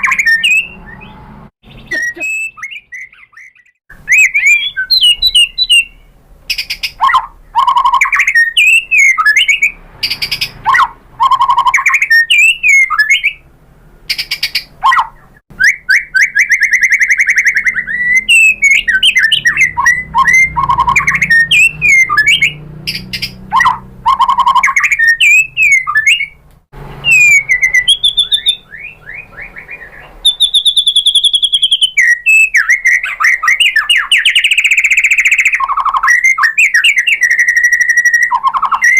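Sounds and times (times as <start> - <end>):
bird singing varied song: 0.0 - 13.5, 14.1 - 38.9.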